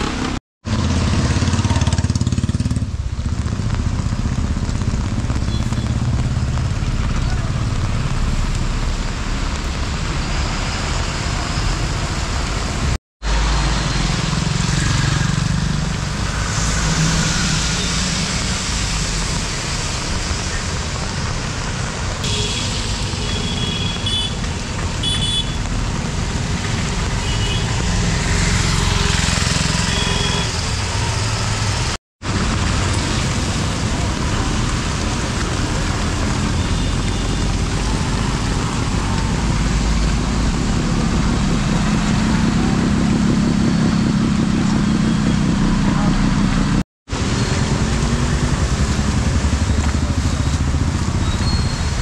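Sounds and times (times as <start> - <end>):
vehicle engines rumbling: 0.0 - 52.0
tyres hissing on wet road: 3.2 - 44.9, 46.0 - 52.0.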